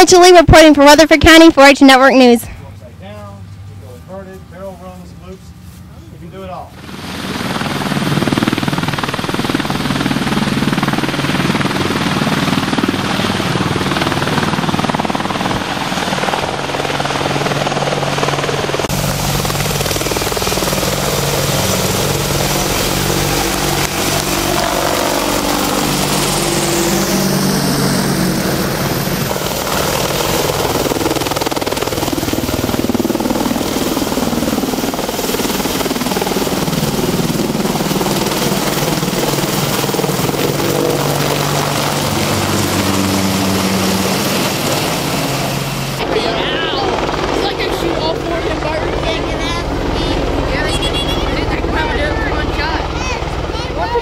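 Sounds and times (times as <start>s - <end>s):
helicopter rotor and turbines: 0.0s - 54.0s.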